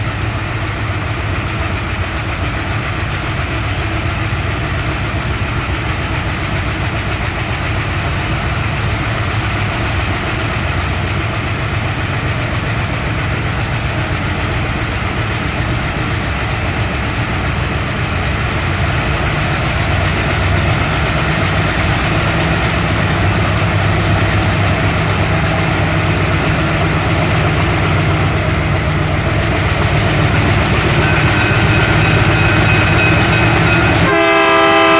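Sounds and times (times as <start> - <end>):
diesel locomotive engines under load: 0.0 - 34.9.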